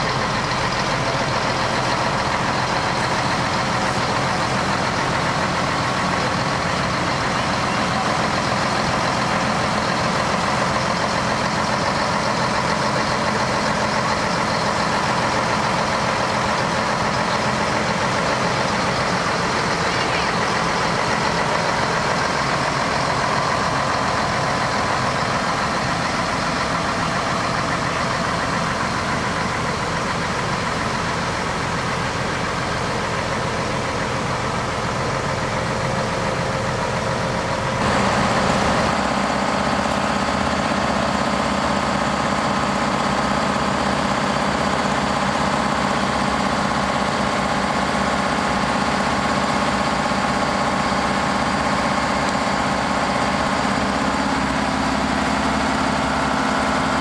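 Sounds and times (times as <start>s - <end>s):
fire engine pump running: 0.0s - 57.0s.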